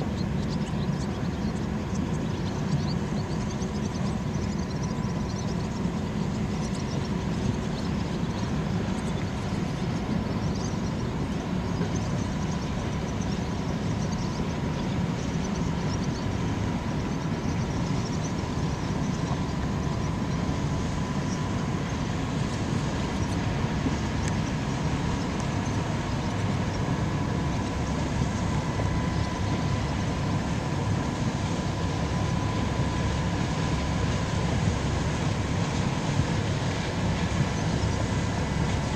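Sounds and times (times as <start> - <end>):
faint steady whine: 0.0 - 38.9
ship engine rumble: 0.0 - 38.9.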